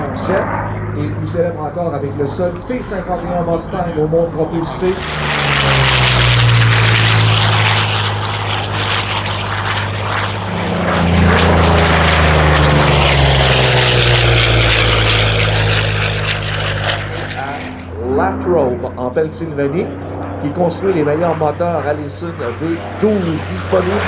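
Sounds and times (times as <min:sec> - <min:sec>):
propeller plane engine droning: 0:00.0 - 0:24.0.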